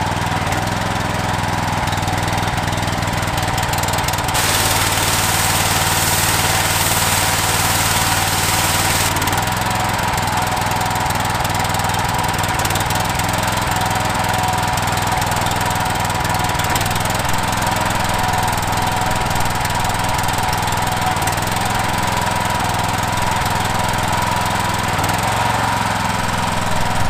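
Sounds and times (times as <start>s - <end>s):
pressure washer engine surging: 0.0s - 27.0s.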